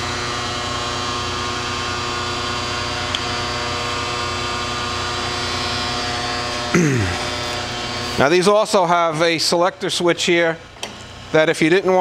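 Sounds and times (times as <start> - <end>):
grinding machine humming: 0.0 - 9.7.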